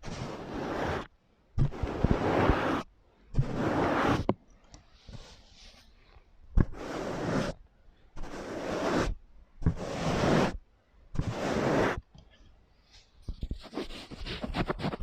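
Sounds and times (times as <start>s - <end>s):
scratchy rustling strokes: 0.0s - 4.3s, 5.0s - 7.6s, 8.2s - 10.6s, 11.2s - 12.0s, 12.8s - 15.0s.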